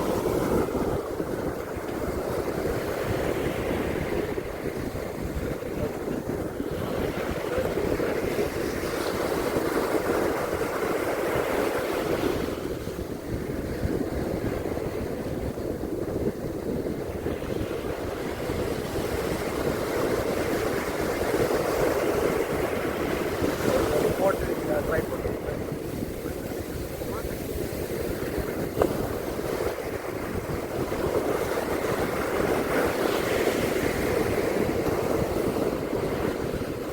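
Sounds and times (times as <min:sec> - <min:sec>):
surf washing onto beach: 0:00.0 - 0:36.9
wind buffeting microphone: 0:00.0 - 0:36.9.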